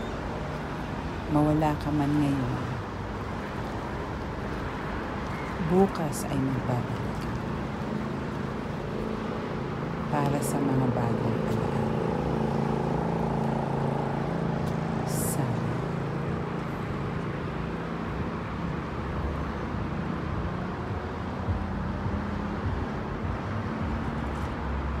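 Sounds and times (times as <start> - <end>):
road traffic: 0.0 - 25.0
low engine hum: 2.3 - 25.0.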